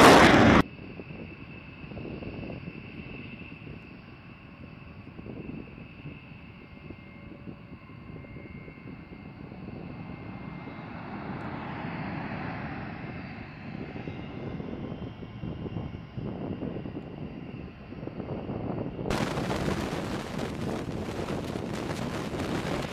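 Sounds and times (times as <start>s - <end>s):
jet engines rumbling: 0.0s - 22.9s
thin steady engine whine: 0.0s - 22.9s.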